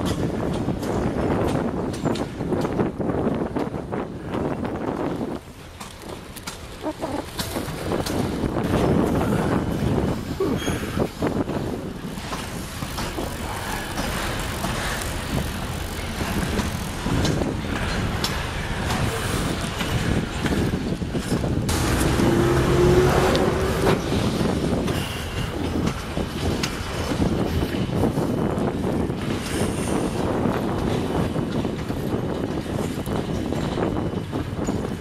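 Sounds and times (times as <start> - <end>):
freight train rumbling past: 0.0 - 35.0
train wagons clanking: 0.0 - 35.0
wind on microphone: 0.0 - 35.0.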